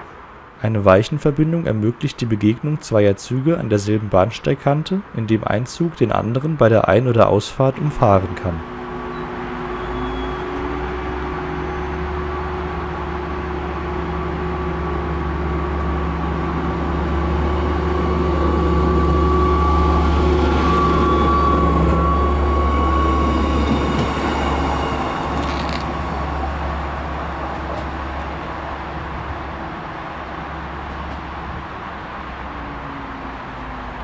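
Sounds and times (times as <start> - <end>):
railcar engine hum and whine: 0.0 - 0.8, 6.8 - 34.0.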